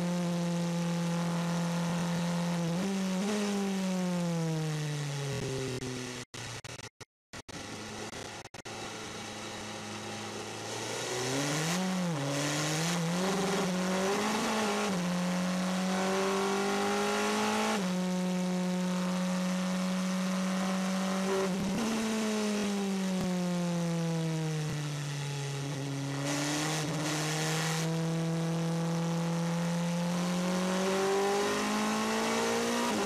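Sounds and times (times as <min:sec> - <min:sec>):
racing car engine at speed: 0:00.0 - 0:33.0.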